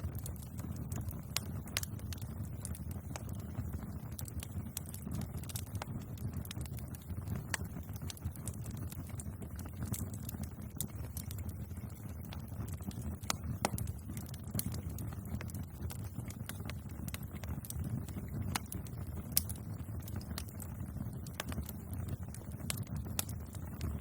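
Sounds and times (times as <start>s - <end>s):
burning wood popping and snapping: 0.0s - 24.0s
low rumble of flames: 0.0s - 24.0s.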